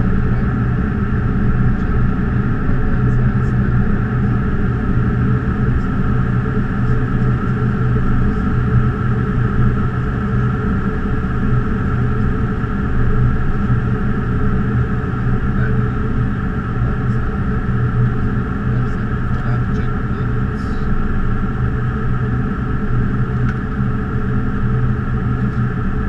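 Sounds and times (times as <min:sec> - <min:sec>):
constant low hum: 0:00.0 - 0:26.0.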